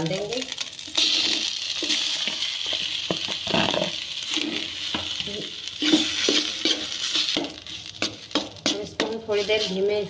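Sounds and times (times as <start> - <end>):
frying hiss: 0.0 - 10.0.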